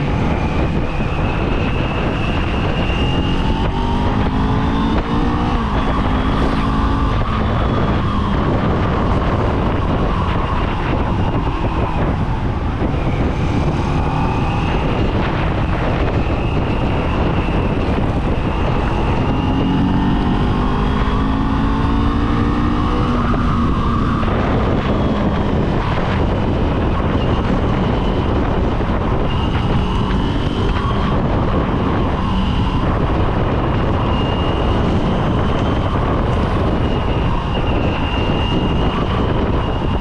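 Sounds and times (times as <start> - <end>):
motorcycle engine revving: 0.0 - 40.0
wind noise on microphone: 0.0 - 40.0.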